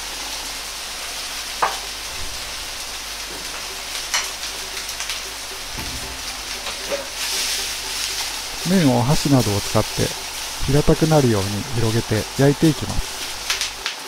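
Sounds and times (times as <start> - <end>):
noodles sizzling in hot oil: 0.0 - 14.0
sharp oil crackles: 0.0 - 14.0.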